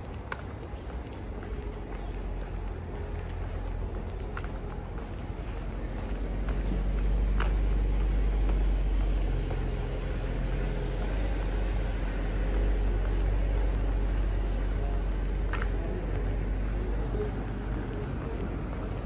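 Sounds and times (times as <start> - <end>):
car engine low hum: 1.3 - 19.0.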